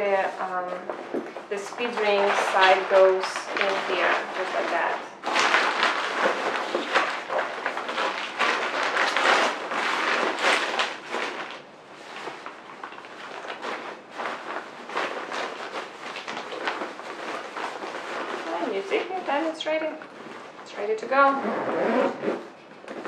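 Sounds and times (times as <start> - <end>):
fabric rustling and crumpling: 0.0 - 23.0.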